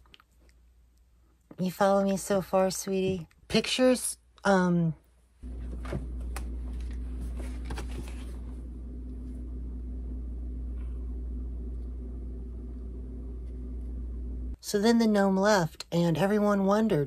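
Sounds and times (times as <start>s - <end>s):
room background hum: 0.0s - 17.0s.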